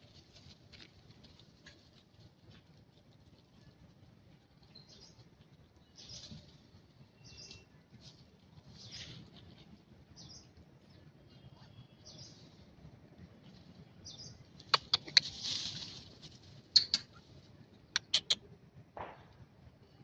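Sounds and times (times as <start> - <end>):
faint soft rustles: 0.0 - 17.8.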